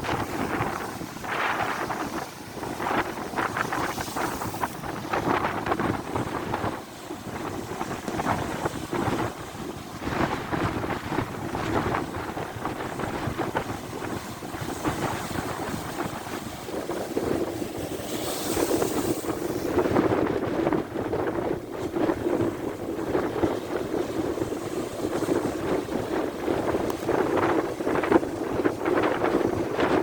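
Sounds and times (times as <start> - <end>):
sea waves breaking: 0.0 - 30.0
wind buffeting microphone: 0.0 - 30.0.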